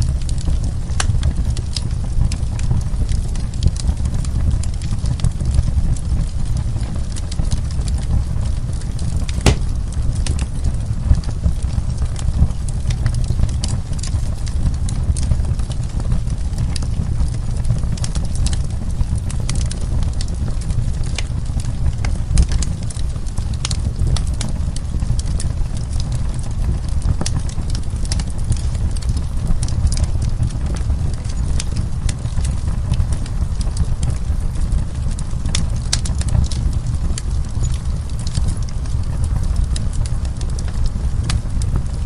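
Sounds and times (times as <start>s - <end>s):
burning wood crackling and popping: 0.0s - 42.0s
fire rumbling in fireplace: 0.0s - 42.0s.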